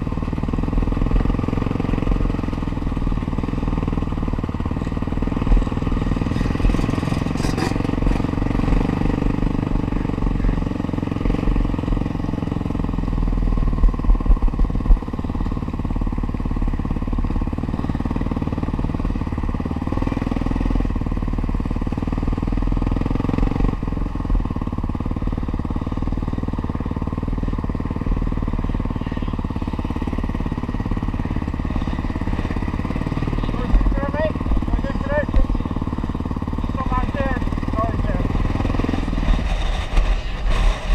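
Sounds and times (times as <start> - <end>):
motorbike engine running: 0.0 - 40.9.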